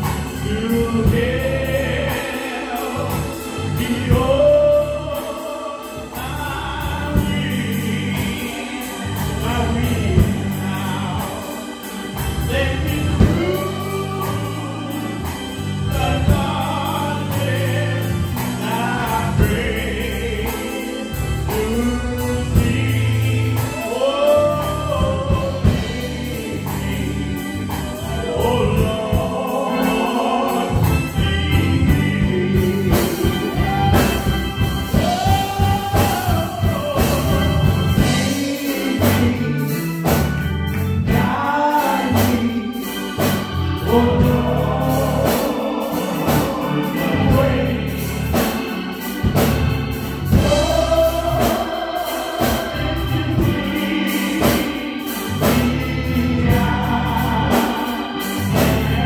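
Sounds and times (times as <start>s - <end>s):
low instrumental accompaniment: 0.0s - 59.0s
voices singing gospel song: 0.0s - 59.0s.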